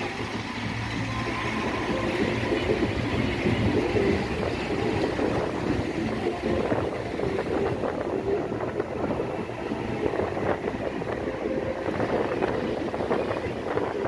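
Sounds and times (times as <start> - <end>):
vehicle driving on dirt road: 0.0 - 14.0
wind buffeting microphone: 0.0 - 14.0.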